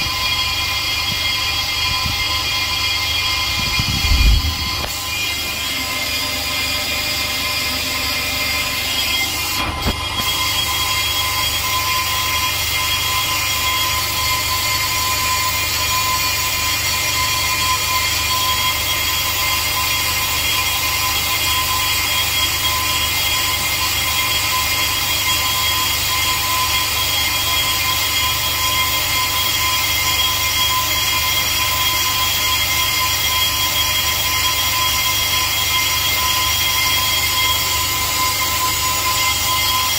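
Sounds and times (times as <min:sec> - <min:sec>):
brake lathe machine whine: 0:00.0 - 0:39.9.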